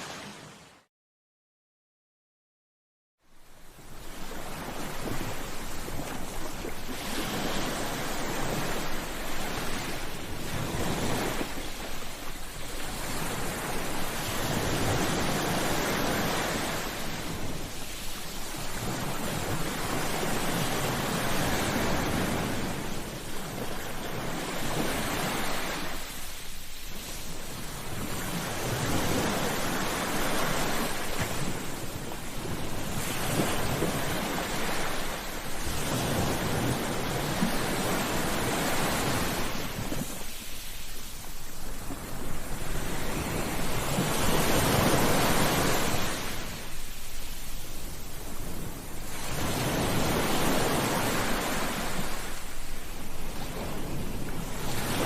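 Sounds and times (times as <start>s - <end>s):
ocean waves breaking on beach: 0.0s - 0.9s, 3.3s - 55.0s.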